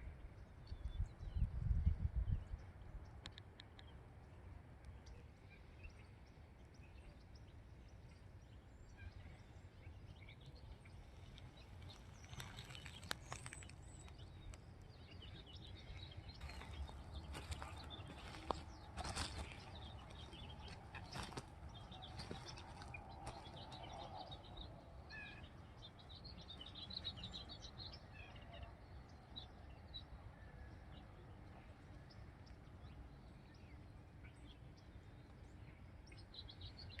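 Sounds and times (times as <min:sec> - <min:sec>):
low outdoor hum: 0:00.0 - 0:37.0
small birds chirping: 0:00.1 - 0:37.0.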